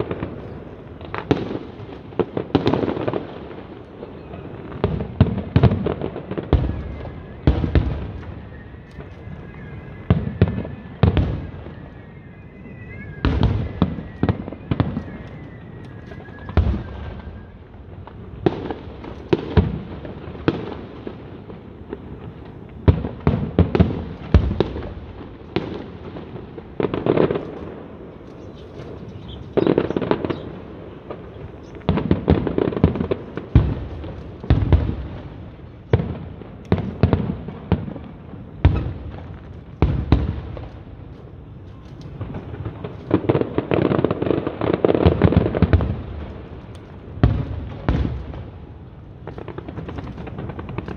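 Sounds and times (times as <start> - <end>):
fireworks bursts and booms: 0.0 - 50.9.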